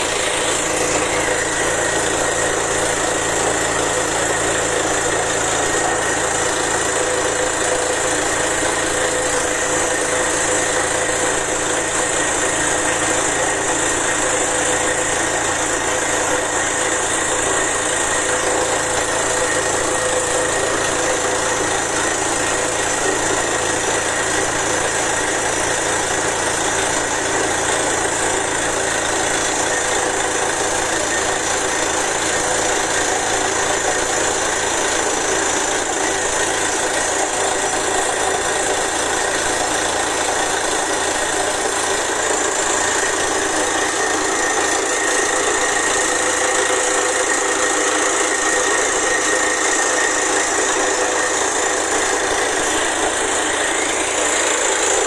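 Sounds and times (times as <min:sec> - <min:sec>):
drilling rig engine running: 0:00.0 - 0:55.0.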